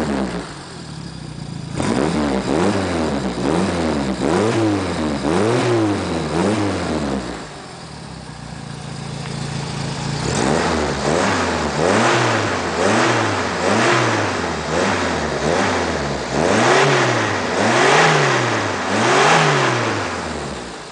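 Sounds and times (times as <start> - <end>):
car engine revving and idling: 0.0 - 20.9.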